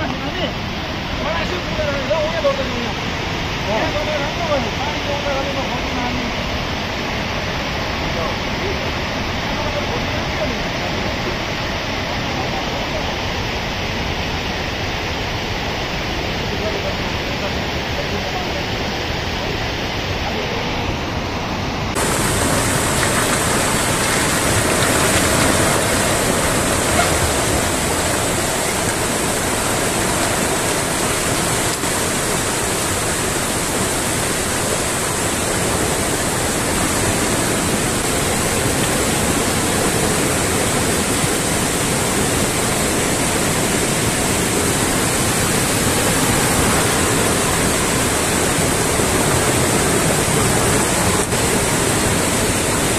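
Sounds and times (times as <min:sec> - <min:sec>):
floodwater rushing: 0:00.0 - 0:52.9
hissy rush of water: 0:00.0 - 0:52.9.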